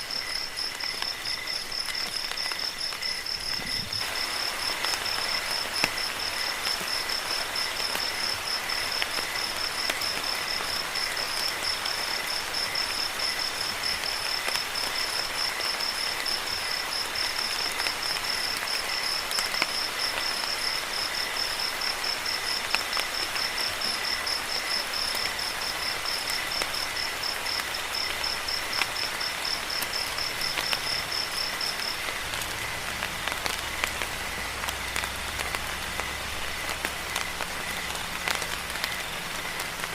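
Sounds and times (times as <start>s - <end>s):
cricket chirping: 0.0s - 39.9s
steady rain: 0.0s - 39.9s.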